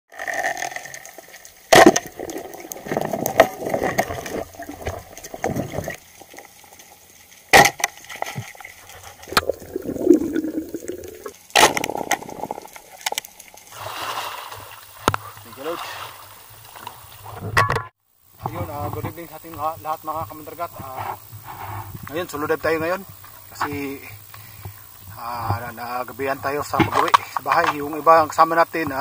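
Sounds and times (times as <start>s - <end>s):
underwater crackling and rustling: 0.1s - 29.0s.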